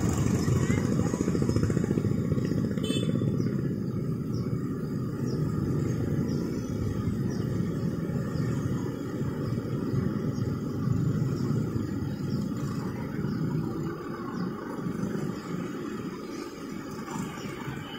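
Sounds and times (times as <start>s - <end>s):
small engines running: 0.0s - 17.9s
tyres on the road: 0.0s - 17.9s.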